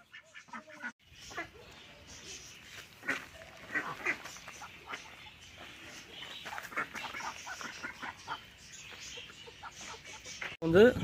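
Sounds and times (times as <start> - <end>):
ducks quacking: 0.0 - 1.8, 2.8 - 10.6.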